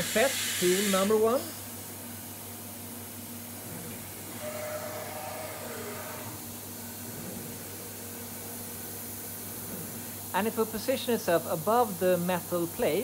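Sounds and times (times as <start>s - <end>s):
steady hiss and hum: 0.0s - 13.0s.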